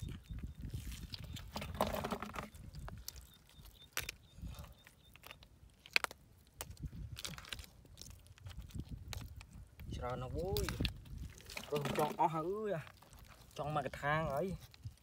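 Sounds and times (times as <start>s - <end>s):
mud squelching: 0.0s - 15.0s.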